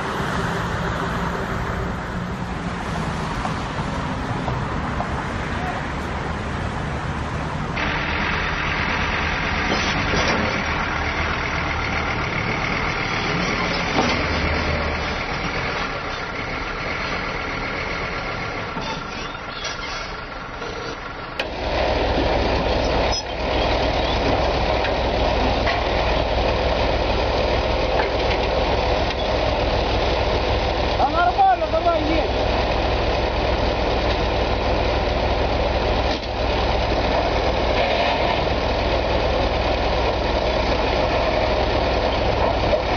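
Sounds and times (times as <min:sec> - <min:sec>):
heavy vehicle engines droning: 0:00.0 - 0:42.9
loud low engine hum: 0:00.0 - 0:42.9.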